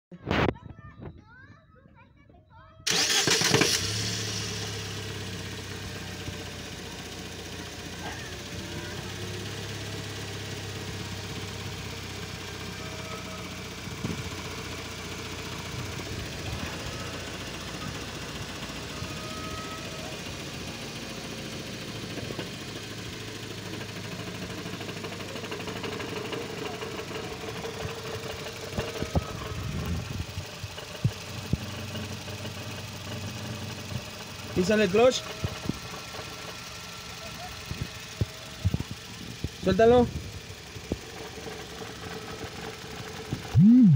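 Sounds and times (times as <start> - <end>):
car engine idling: 2.9 - 43.9
engine knocking: 2.9 - 43.9.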